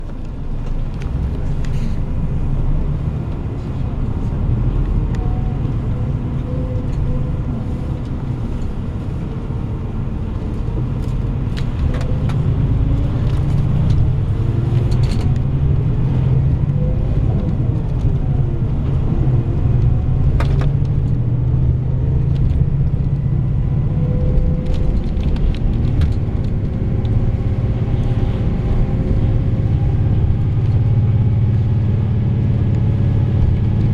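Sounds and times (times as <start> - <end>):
bus engine and road noise: 0.0 - 33.9.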